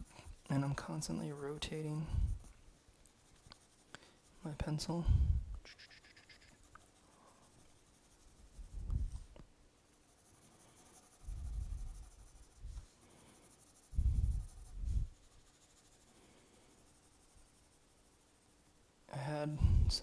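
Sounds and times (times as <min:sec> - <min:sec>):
pencil shading on paper: 0:00.0 - 0:08.7, 0:09.9 - 0:18.8.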